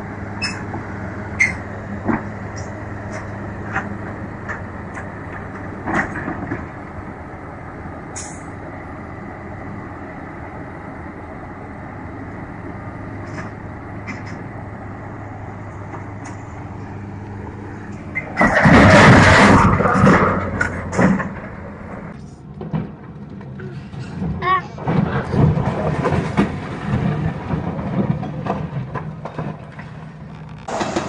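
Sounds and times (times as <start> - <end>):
heavy diesel engine running: 0.0 - 31.0
excavator tipping off trailer: 0.1 - 31.0.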